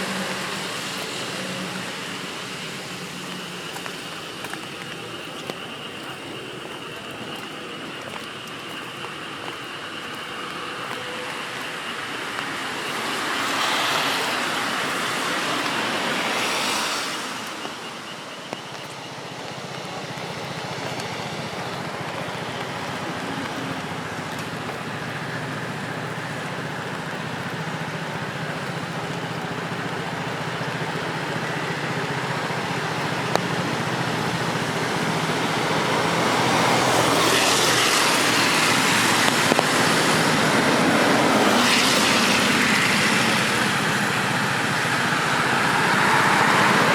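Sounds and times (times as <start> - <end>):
car tyres hissing on wet road: 0.0 - 46.9
steady rain: 0.0 - 46.9.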